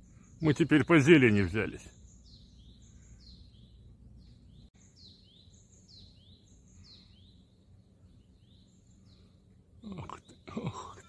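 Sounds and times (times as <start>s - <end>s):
songbird singing faintly: 0.0s - 11.0s.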